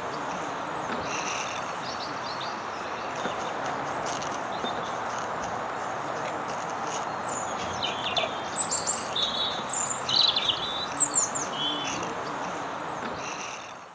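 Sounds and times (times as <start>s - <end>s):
songbird chirping and trilling: 0.0s - 5.3s, 6.8s - 13.7s
steady background hiss: 0.0s - 13.9s.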